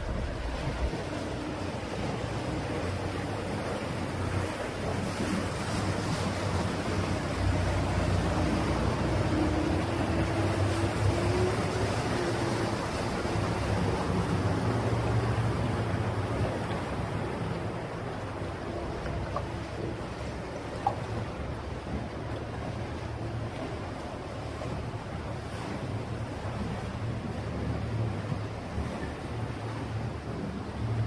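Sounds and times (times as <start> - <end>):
motorboat engine droning: 0.0 - 31.0
rushing wake water: 0.0 - 31.0.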